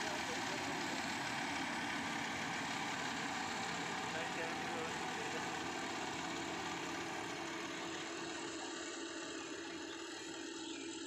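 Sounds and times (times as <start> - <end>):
combine harvester engine hum: 0.0 - 11.0.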